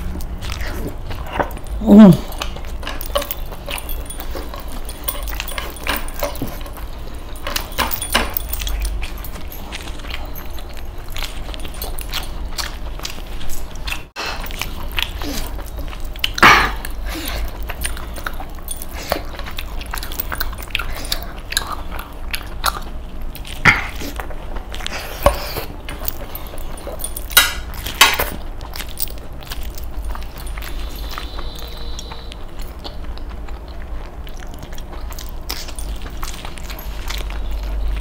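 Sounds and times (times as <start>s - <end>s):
chewing and biting food: 0.0s - 38.0s.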